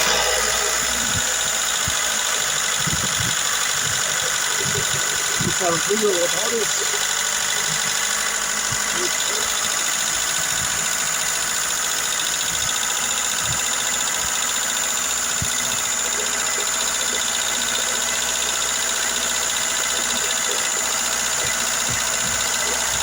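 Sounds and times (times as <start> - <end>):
car engine idling: 0.0 - 23.0
valve lifters ticking: 0.0 - 23.0.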